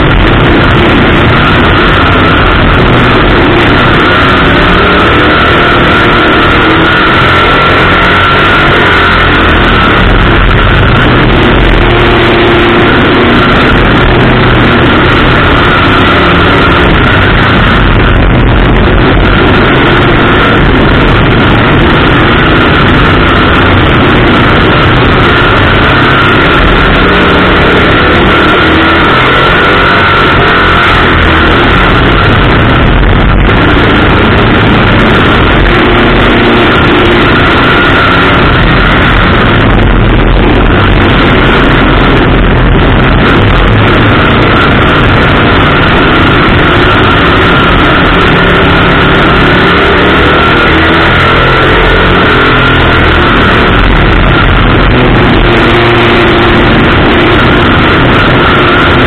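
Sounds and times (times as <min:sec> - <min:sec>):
race car engine running hard: 0:00.0 - 0:59.0
wind rushing: 0:00.0 - 0:59.0.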